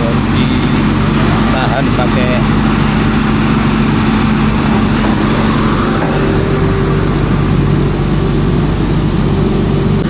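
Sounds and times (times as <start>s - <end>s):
motor vehicle engine running: 0.0s - 10.0s.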